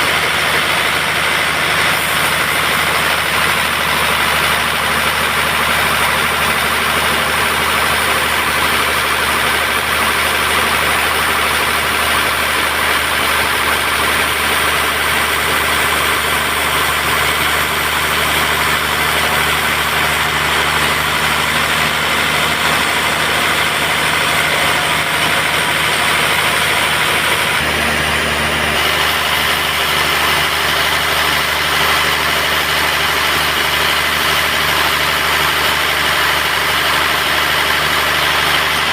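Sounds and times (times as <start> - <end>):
sawmill machine drone: 0.0 - 38.9.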